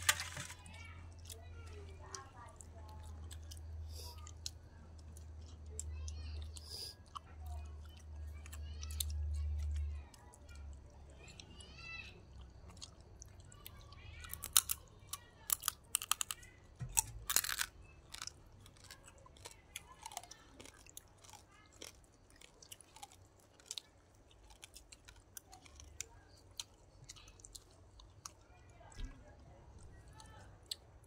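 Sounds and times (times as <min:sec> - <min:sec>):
people chewing crunchy food: 0:00.0 - 0:31.0.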